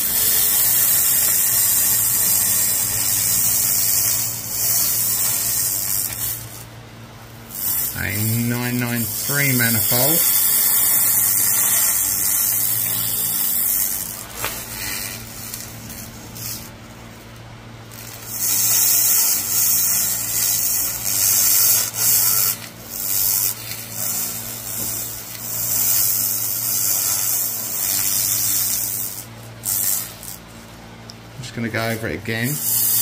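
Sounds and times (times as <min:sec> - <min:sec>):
laser beam hissing crackle: 0:00.0 - 0:30.7, 0:31.4 - 0:33.0.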